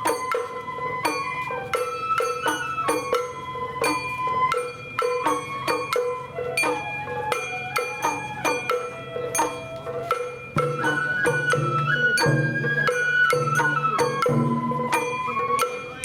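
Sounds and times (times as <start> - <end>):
bamboo flute melody: 0.0 - 16.0
drum strikes: 0.0 - 16.0.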